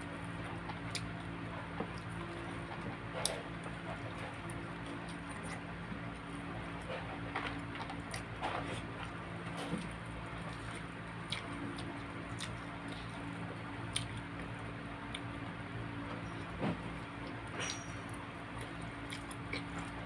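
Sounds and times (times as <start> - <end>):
steady low hum: 0.0 - 20.0
wet chewing and squishing: 0.0 - 20.0.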